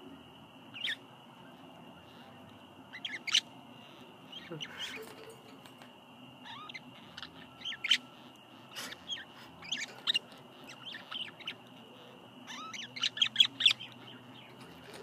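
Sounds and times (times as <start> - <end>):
budgerigars chirping: 0.7 - 5.6, 6.4 - 15.0.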